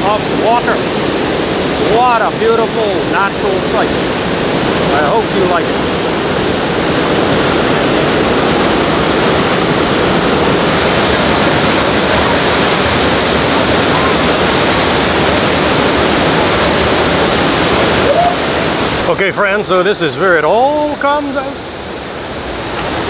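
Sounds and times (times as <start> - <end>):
waterfall crashing: 0.0 - 23.0.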